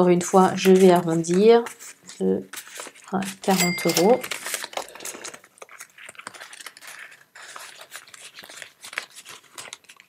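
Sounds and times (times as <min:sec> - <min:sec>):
banknotes rustling: 0:00.1 - 0:10.0.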